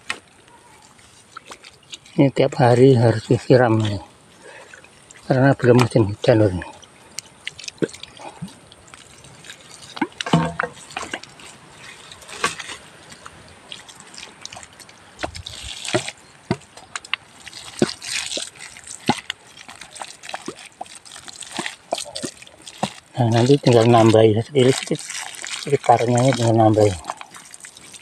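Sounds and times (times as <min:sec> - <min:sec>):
water drips and splats: 0:00.0 - 0:28.0
water poured onto soil: 0:00.7 - 0:28.0.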